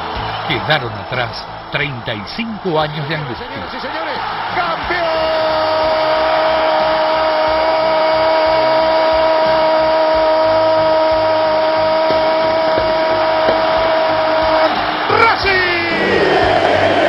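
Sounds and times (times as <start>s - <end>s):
stadium crowd noise: 0.0s - 17.0s.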